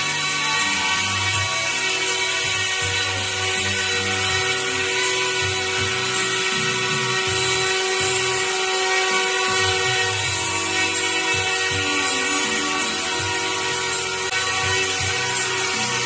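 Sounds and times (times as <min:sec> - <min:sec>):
toy helicopter motor whining: 0:00.0 - 0:16.0.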